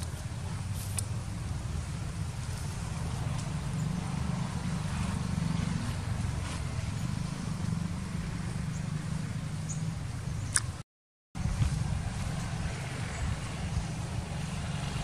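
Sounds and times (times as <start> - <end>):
low outdoor rumble: 0.0 - 10.8, 11.4 - 15.0.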